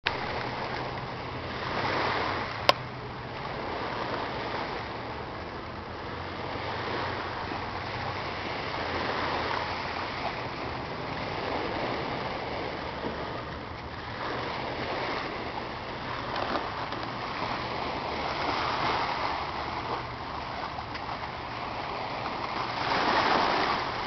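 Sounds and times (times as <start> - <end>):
small waves lapping on rocks: 0.1 - 24.0.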